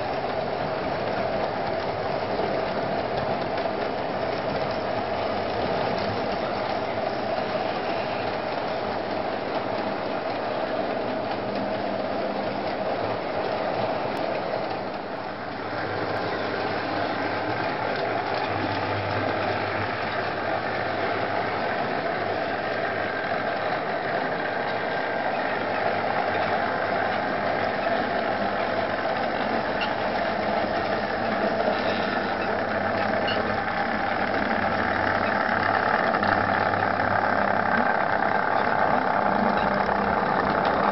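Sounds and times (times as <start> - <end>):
wheels rattling on track: 0.0 - 40.9.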